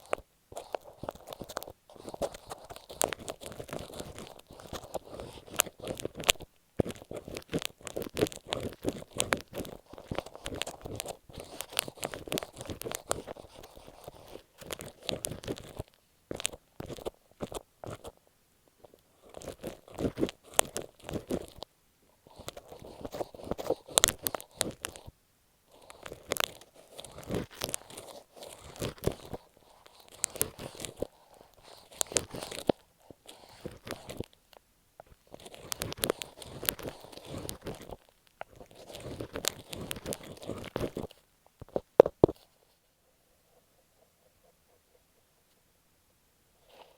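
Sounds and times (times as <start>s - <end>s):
tape scratching on microphone: 0.0s - 18.2s, 18.8s - 25.1s, 25.7s - 42.6s.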